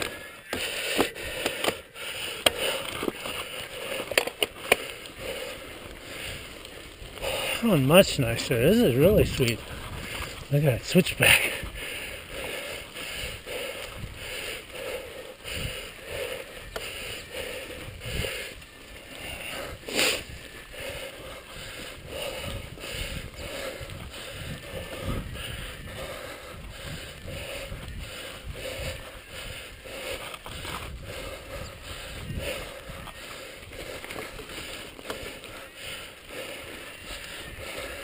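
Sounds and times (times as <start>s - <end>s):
bike rattling over bumps: 0.0s - 38.0s
bike tyres rolling on dirt: 0.0s - 38.0s.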